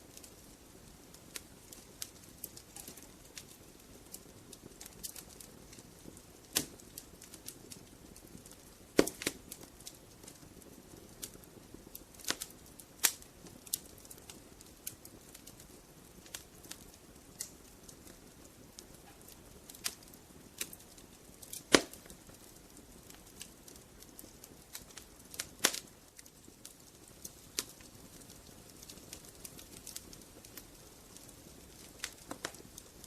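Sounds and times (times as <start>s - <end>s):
fire crackling and popping: 0.0s - 33.0s
soft fire hiss: 0.0s - 33.0s.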